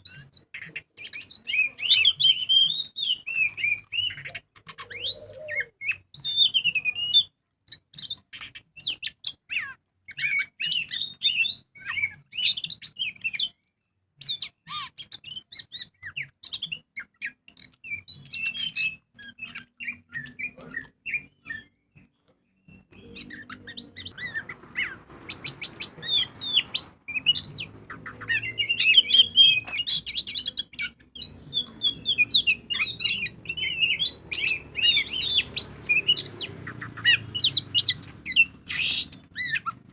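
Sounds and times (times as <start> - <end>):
bird singing whistles and trills: 0.0 - 13.6, 14.2 - 39.8.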